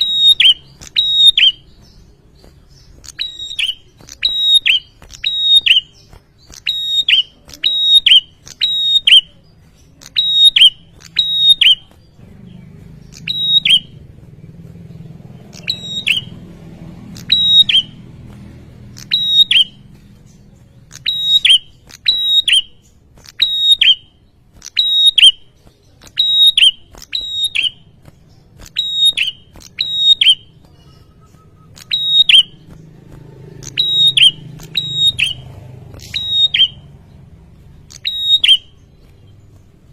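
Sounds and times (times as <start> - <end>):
bird singing whistled notes: 0.0 - 16.5, 17.1 - 33.0, 33.6 - 39.9.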